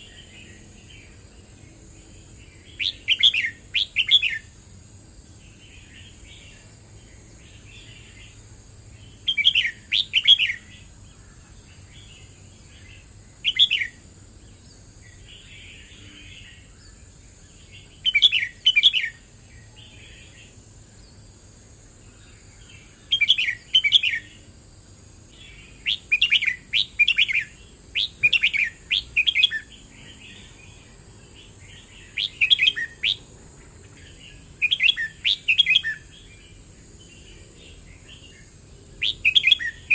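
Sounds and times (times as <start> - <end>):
bulbul singing warbled phrases: 0.0 - 4.6, 5.3 - 14.1, 14.7 - 21.4, 22.0 - 24.6, 25.2 - 39.9
faint birdsong: 0.0 - 39.9.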